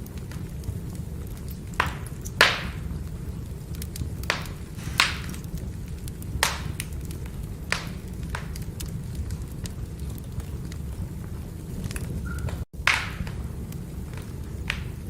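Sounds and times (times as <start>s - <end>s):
firewood burning rumble: 0.0s - 15.0s
logs crackling pops: 0.0s - 15.0s.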